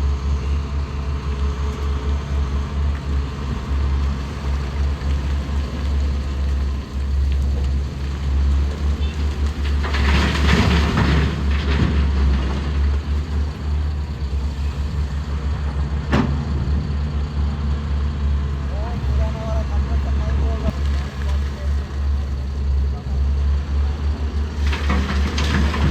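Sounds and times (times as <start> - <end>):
diesel engine running: 0.0 - 25.9
coal pouring into truck: 0.7 - 16.7, 18.7 - 23.0, 24.5 - 25.9.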